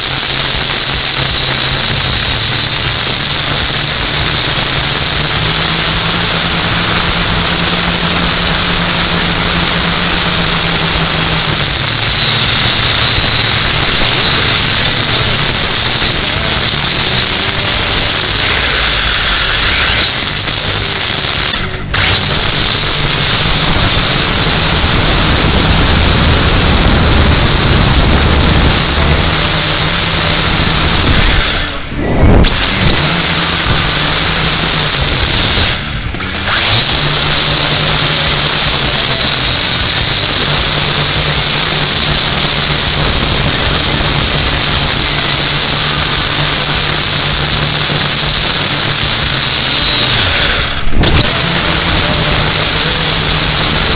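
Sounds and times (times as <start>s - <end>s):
drone propellers whining: 0.0s - 53.9s.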